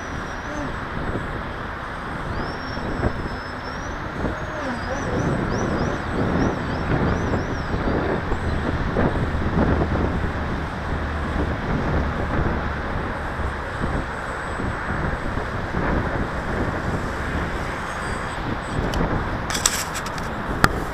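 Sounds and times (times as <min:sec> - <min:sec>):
wind on microphone: 0:00.0 - 0:20.9.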